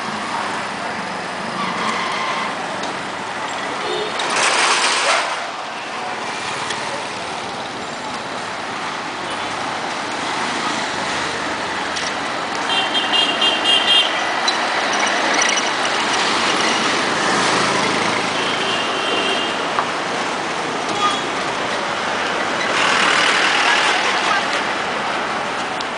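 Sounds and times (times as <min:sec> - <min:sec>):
car and motorcycle engines passing: 0:00.0 - 0:18.6, 0:19.5 - 0:25.9.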